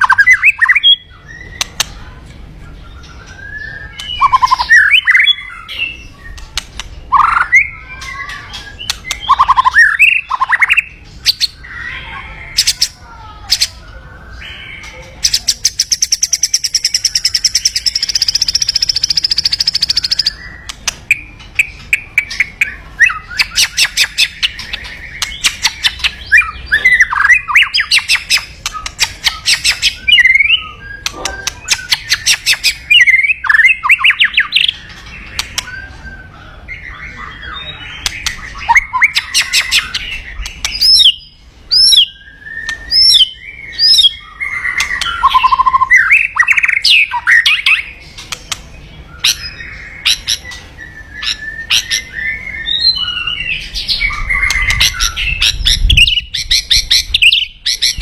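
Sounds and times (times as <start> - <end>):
bird singing whistled song: 0.0 - 1.8, 2.7 - 12.8, 13.9 - 58.0.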